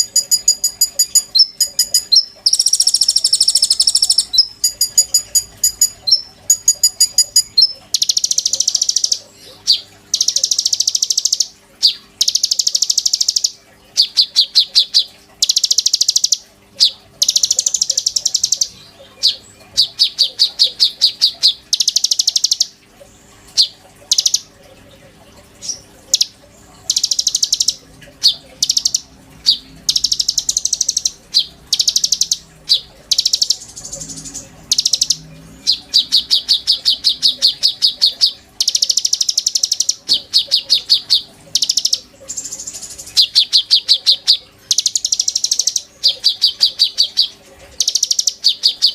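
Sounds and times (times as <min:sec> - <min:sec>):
songbird trilling: 0:00.0 - 0:22.8, 0:23.6 - 0:24.5, 0:25.6 - 0:48.9.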